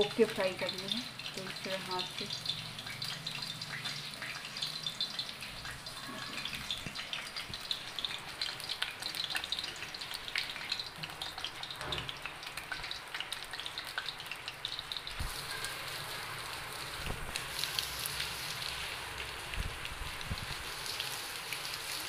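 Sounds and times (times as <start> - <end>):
deep-frying sizzle with crackles: 0.0 - 22.0.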